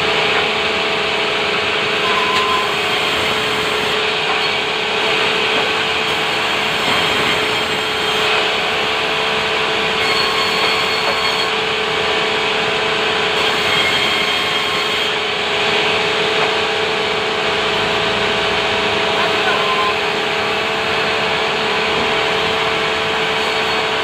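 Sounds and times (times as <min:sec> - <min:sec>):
power saw whirring: 0:00.0 - 0:24.0.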